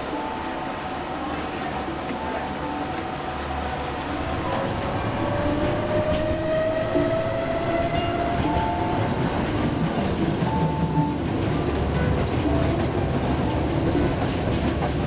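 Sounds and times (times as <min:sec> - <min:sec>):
transit vehicle rumble: 0:00.0 - 0:15.0.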